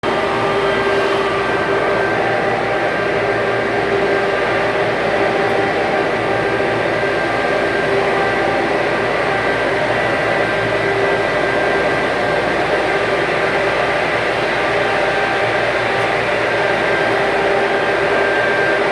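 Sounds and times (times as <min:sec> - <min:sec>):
welding machine hum: 0:00.0 - 0:18.9.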